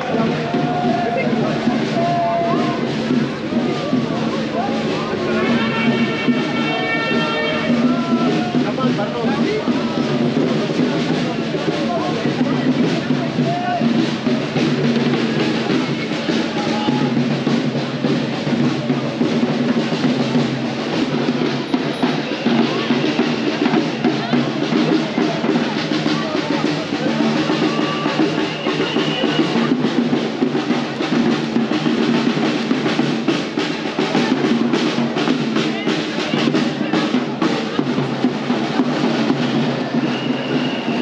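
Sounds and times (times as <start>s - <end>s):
percussion band drumming: 0.0s - 41.0s.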